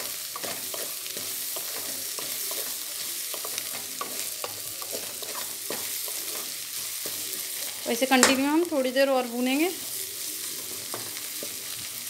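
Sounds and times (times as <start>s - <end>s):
spatula scraping and tapping a pan: 0.0s - 8.7s, 10.5s - 11.9s
food sizzling in a pan: 0.0s - 12.0s.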